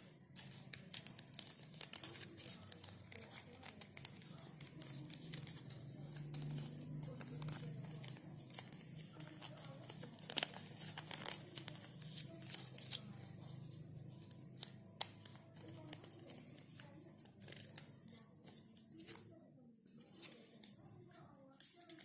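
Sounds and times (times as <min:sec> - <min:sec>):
faint low hum: 0:00.0 - 0:22.0
paper crinkling and rustling: 0:00.0 - 0:22.0.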